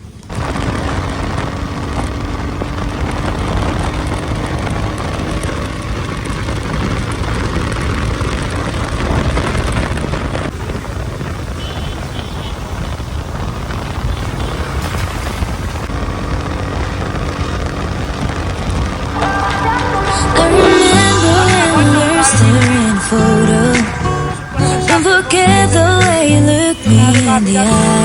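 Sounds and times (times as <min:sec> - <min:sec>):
motorcycle engine running: 0:00.1 - 0:28.0
wind on microphone: 0:00.3 - 0:26.7.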